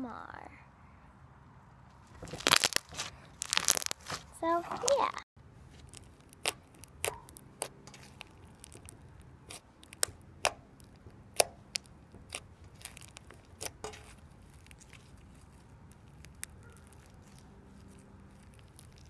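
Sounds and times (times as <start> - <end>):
slime squishing with pops: 2.3 - 4.2, 4.8 - 19.0.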